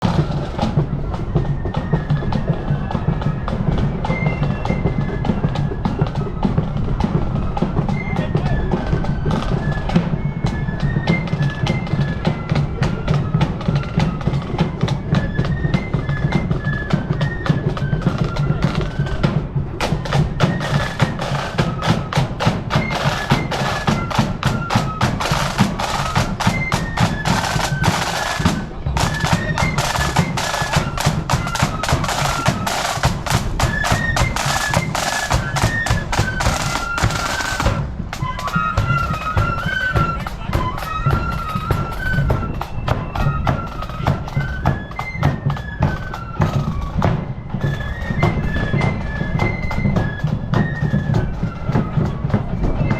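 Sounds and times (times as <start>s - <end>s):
flutes playing melody: 0.0s - 52.9s
snare drum rolls: 0.0s - 52.9s.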